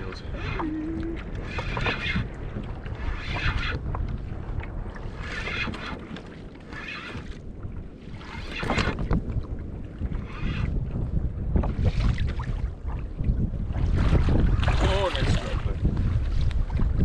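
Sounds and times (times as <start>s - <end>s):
water washing against hull: 0.0s - 17.0s
wind buffeting microphone: 0.0s - 17.0s.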